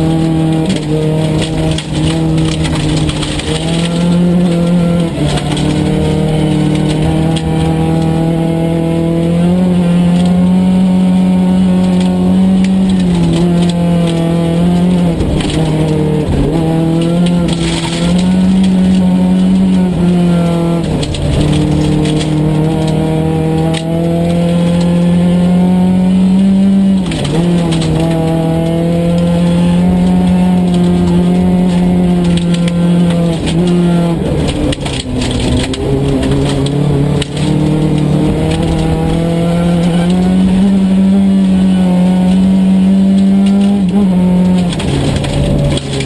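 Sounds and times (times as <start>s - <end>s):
rally car engine at high revs: 0.0s - 46.0s.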